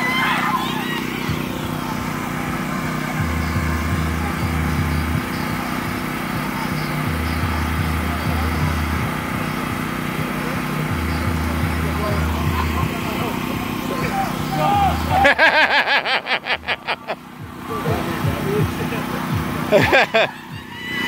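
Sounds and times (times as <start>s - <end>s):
electric blower humming: 0.0s - 21.0s
generator engine running: 0.0s - 21.0s.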